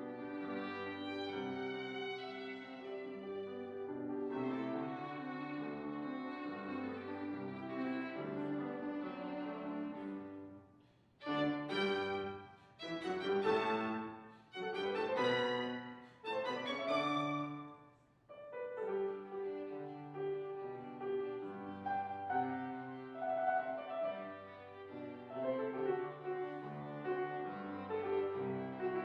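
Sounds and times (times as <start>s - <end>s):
classical violin music: 0.0s - 10.6s, 11.2s - 29.0s
piano: 0.0s - 29.0s.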